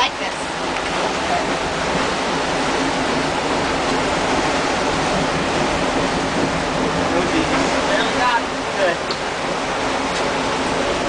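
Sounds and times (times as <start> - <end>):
low engine hum: 0.0 - 11.0
water rushing in boat wake: 0.0 - 11.0.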